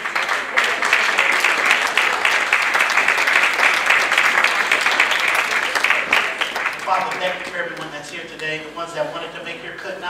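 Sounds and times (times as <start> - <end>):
congregation applauding: 0.0 - 8.6.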